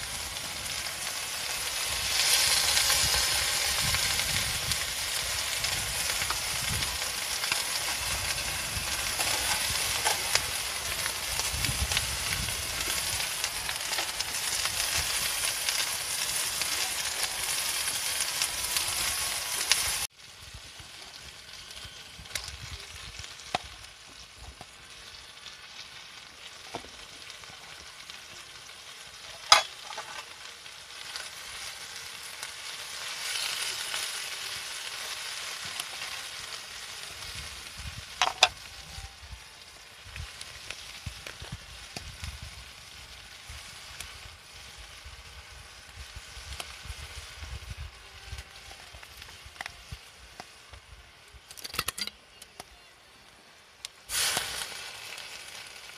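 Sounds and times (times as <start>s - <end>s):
chicken sizzling in skillet: 0.0s - 55.9s
greens sizzling while stirred: 0.0s - 55.9s.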